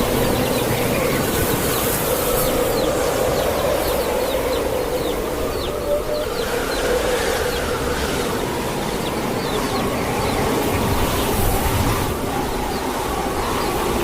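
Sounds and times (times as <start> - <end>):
chicks peeping: 0.0 - 14.0
wind rushing: 0.0 - 14.0.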